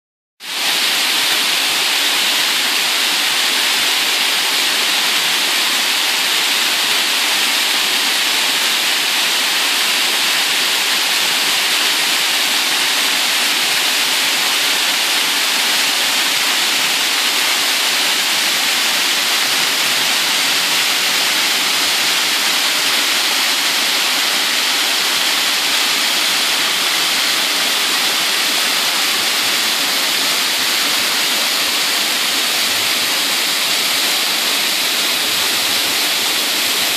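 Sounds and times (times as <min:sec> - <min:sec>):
waterfall splashing onto rocks: 0:00.4 - 0:36.9.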